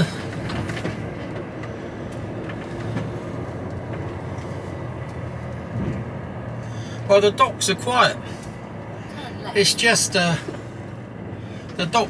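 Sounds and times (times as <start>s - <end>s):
lorry diesel engine rumbling: 0.0s - 12.0s
road noise: 0.0s - 12.0s.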